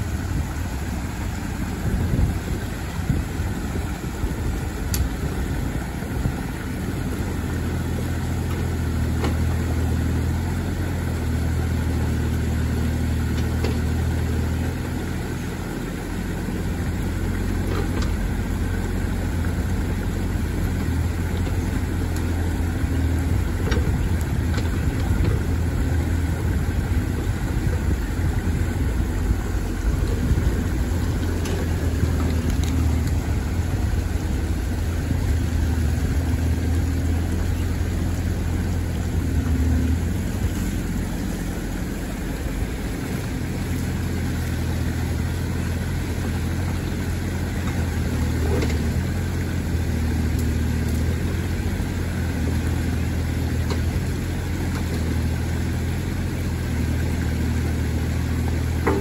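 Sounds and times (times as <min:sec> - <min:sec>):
excavator diesel engine running: 0:00.0 - 0:59.0
water rushing: 0:00.0 - 0:59.0.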